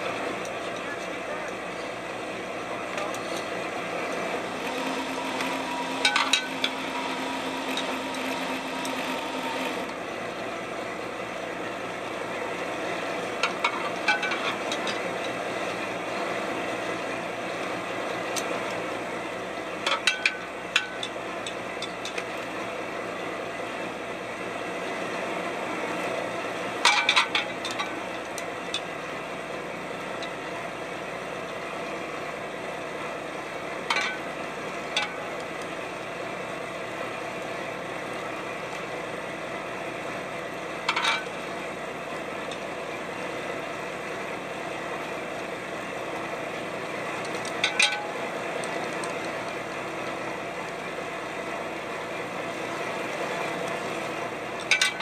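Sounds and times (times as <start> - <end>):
faint whine: 0.0 - 54.8
boat engine droning: 0.0 - 55.0.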